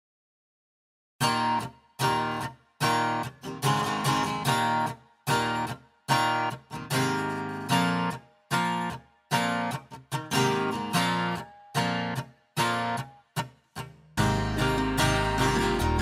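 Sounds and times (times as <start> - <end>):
acoustic guitar strumming chords: 1.2 - 13.5, 14.2 - 16.0.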